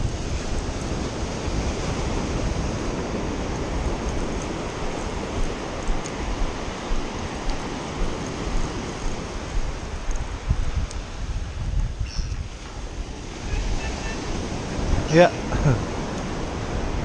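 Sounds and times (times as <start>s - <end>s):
surf breaking on beach: 0.0s - 11.5s, 12.5s - 17.0s
wind buffeting microphone: 0.0s - 17.0s.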